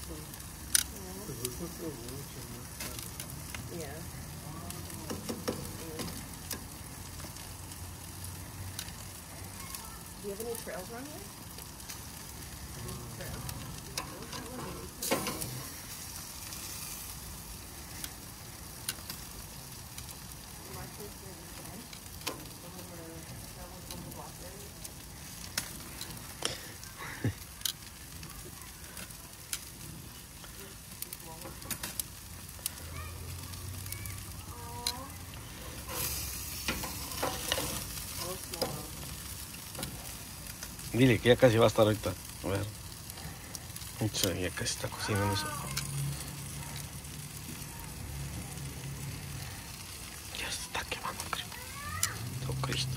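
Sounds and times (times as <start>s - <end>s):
pops and crackles: 0.0s - 52.9s
steak sizzling: 0.0s - 52.9s.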